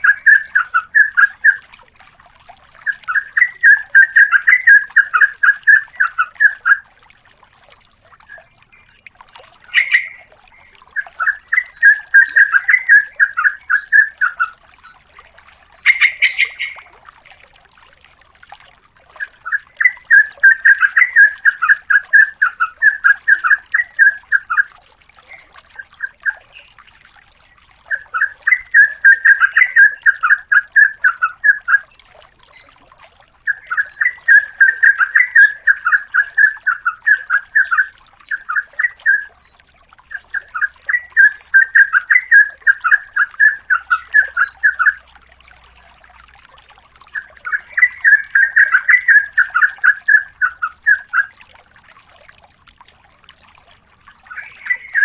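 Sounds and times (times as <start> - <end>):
bulbul singing: 0.0 - 1.7, 2.8 - 6.9, 8.1 - 17.4, 19.1 - 45.9, 47.0 - 51.4, 53.7 - 55.0.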